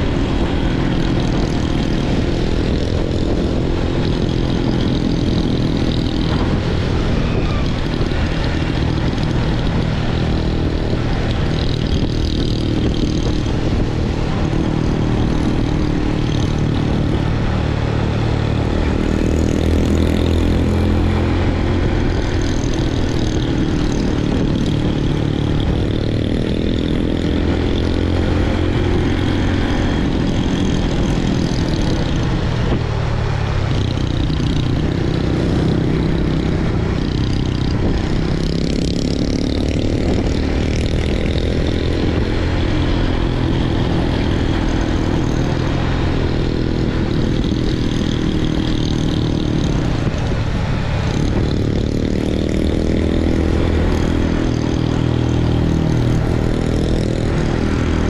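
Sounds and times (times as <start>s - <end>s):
scooter engine running: 0.0s - 58.0s
wind and road noise: 0.0s - 58.0s.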